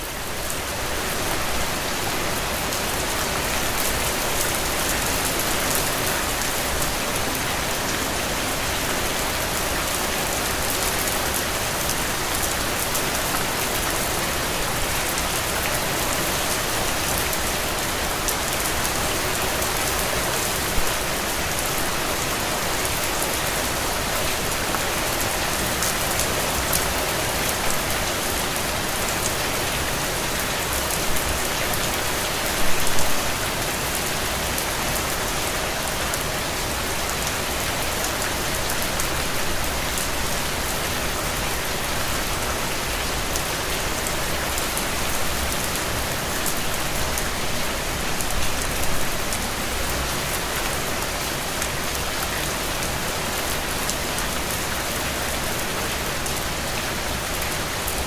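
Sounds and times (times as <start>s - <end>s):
rain on a window: 0.1s - 58.0s.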